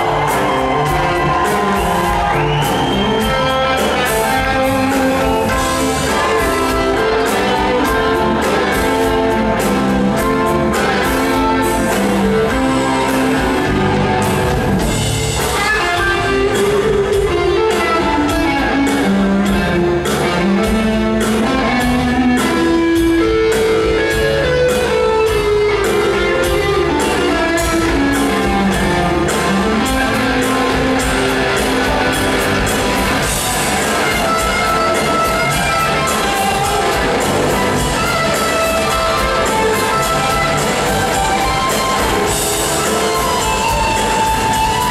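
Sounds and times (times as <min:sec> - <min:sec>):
electric guitar: 0:00.0 - 0:44.9
live rock band playing: 0:00.0 - 0:44.9.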